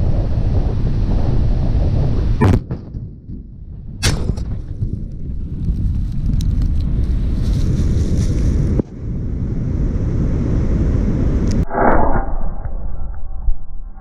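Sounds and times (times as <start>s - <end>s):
explosion rumble and roar: 0.0s - 14.0s.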